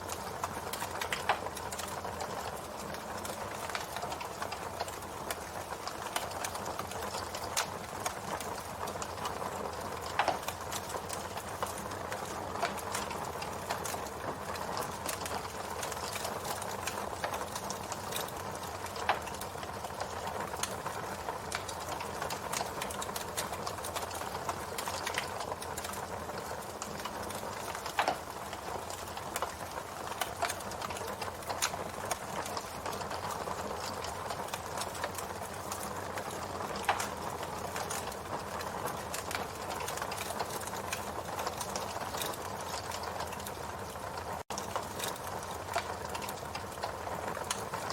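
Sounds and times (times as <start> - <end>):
campfire wood crackling: 0.0 - 47.9
loud fire snaps: 0.0 - 47.9.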